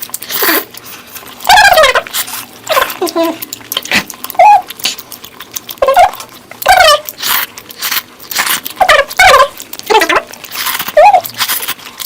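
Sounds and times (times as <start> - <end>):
lip-smacking clicks: 0.0 - 12.0
squeaky slurps: 0.0 - 12.0
wet chewing and slurping: 0.0 - 12.0.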